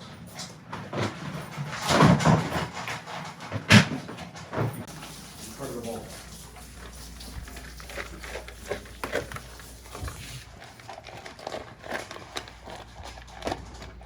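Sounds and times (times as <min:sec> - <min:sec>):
dogs chewing and crunching food: 0:00.0 - 0:14.0.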